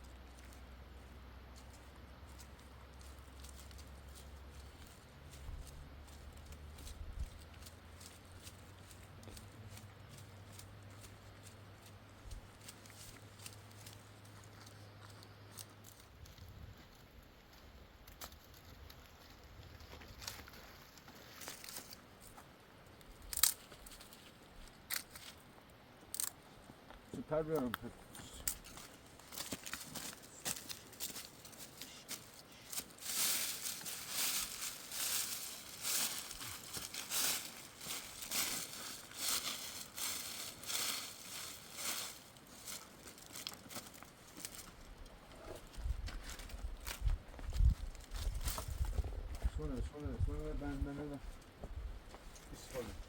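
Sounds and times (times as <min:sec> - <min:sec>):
footsteps crunching on dry ground: 0:00.0 - 0:25.6, 0:26.2 - 0:53.0.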